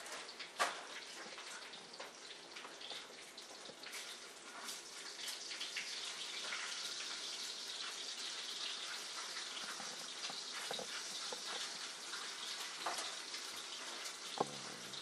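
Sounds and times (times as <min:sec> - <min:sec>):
bacon sizzling with pops: 0:00.0 - 0:15.0.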